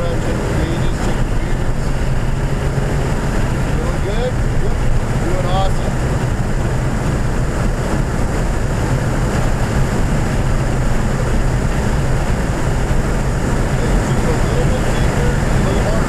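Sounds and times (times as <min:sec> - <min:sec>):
car engine drone in cabin: 0:00.0 - 0:16.0
road and wind noise: 0:00.0 - 0:16.0.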